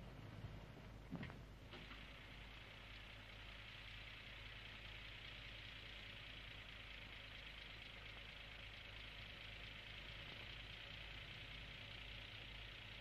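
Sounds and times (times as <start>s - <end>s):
faint car engine running: 0.0s - 13.0s.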